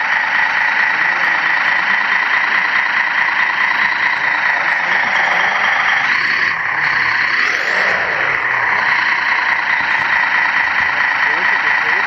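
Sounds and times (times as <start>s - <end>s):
model truck motor whine: 0.0s - 12.0s.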